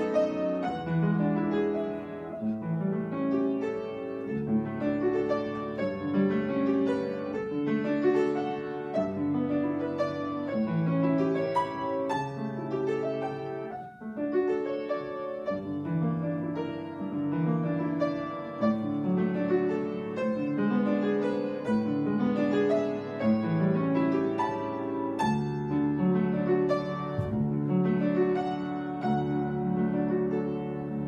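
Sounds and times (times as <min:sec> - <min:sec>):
piano playing quick notes: 0:00.0 - 0:31.0.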